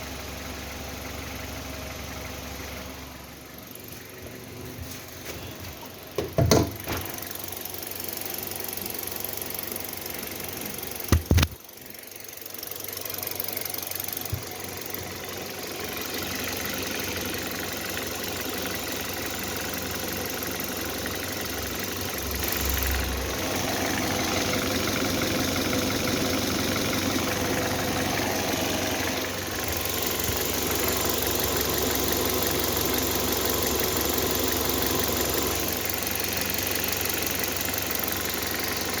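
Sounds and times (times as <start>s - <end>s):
car engine running: 0.0s - 39.0s
extraneous engine noise: 6.8s - 39.0s.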